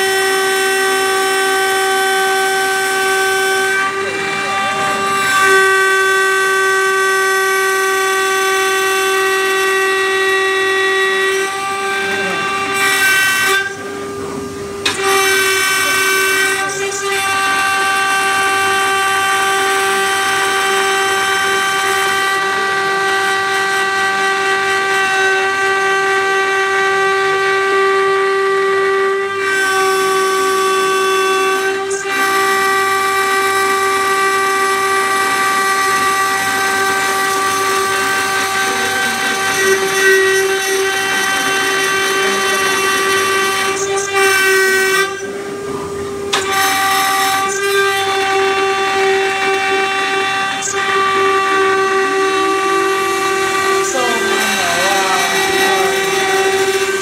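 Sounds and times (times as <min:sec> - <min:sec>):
router spindle milling acrylic: 0:00.0 - 0:57.0.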